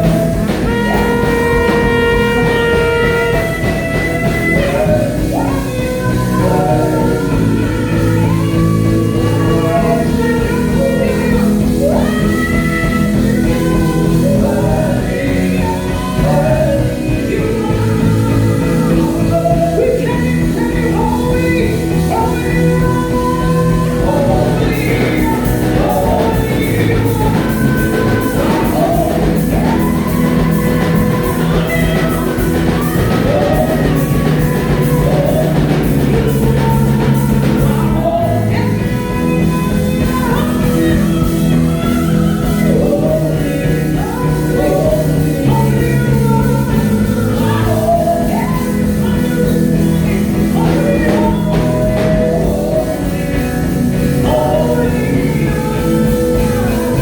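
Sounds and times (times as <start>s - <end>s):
gospel band playing: 0.0s - 57.0s
people singing: 0.0s - 57.0s.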